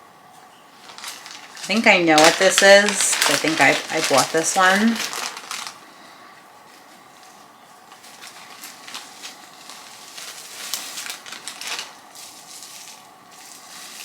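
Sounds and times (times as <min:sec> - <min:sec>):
packaging rustling and crinkling: 0:00.7 - 0:14.0.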